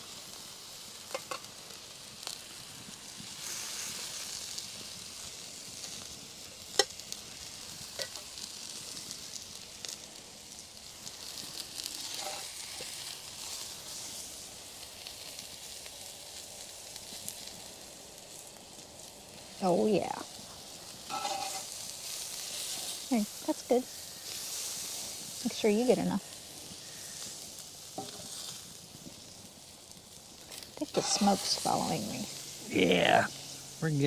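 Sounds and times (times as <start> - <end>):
food sizzling on a griddle: 0.0 - 34.0.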